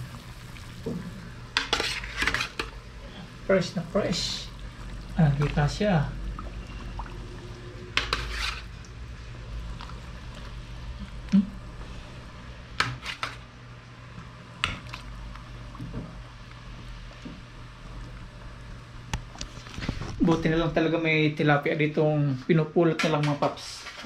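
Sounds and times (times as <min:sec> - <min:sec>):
steady low hum: 0:00.0 - 0:22.5.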